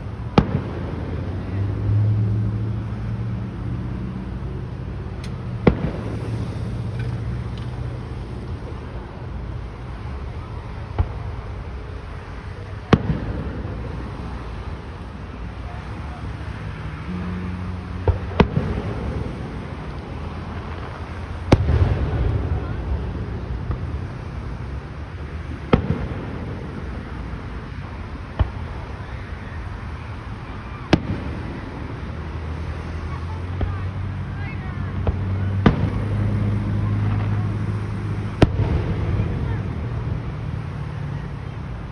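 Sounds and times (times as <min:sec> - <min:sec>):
fireworks bangs: 0:00.0 - 0:41.8
low rumble of wind: 0:00.0 - 0:41.9.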